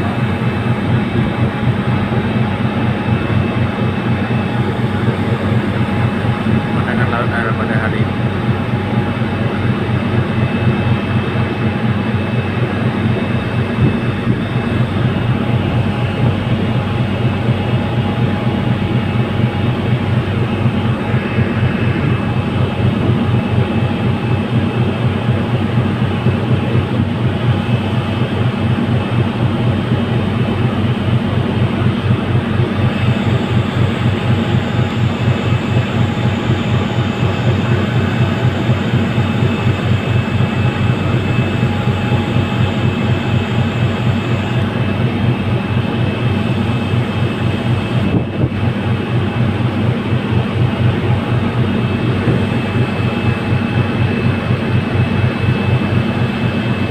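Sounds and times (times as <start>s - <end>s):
ferry engines droning: 0.0s - 56.9s.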